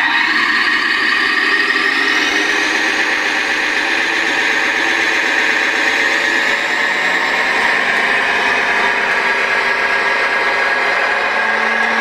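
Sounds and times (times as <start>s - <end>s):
electric motor whining: 1.9s - 12.0s.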